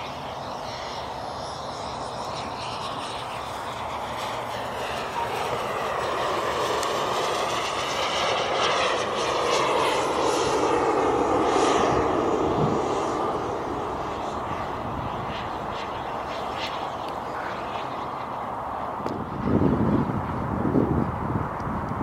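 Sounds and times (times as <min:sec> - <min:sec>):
jet turbine roar flying past: 0:00.0 - 0:22.0.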